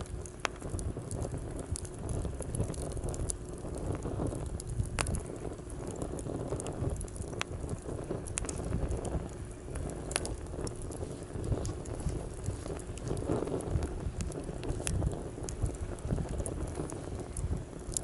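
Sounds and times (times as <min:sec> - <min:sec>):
campfire crackling and popping: 0:00.0 - 0:18.0
low rumble of waves: 0:00.0 - 0:18.0.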